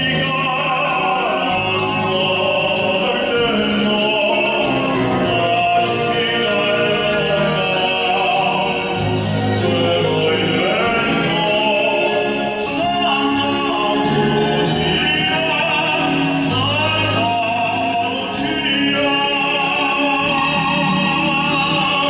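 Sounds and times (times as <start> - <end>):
operatic singing with orchestra: 0.0 - 22.0.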